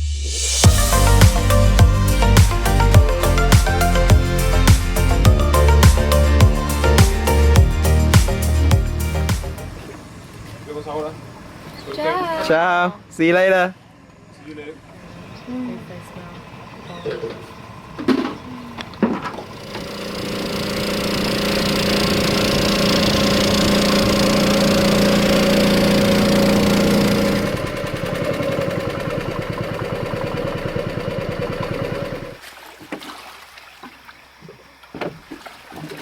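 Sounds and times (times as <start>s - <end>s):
outboard motor running: 0.6s - 12.5s, 14.9s - 32.4s.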